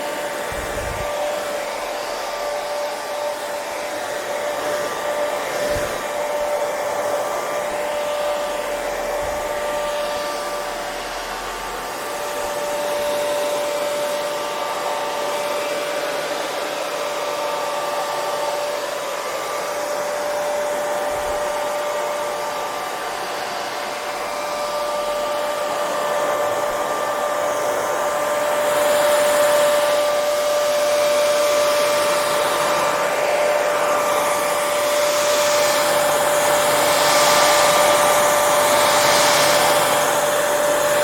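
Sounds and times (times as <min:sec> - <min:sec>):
hair dryer running: 0:00.0 - 0:41.0.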